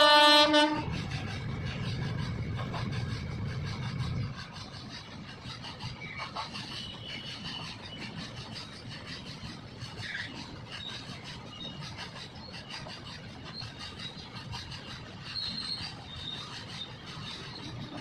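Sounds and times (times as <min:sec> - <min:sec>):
freight train rumbling past: 0:00.0 - 0:18.0
train wheel squeals: 0:00.0 - 0:18.0.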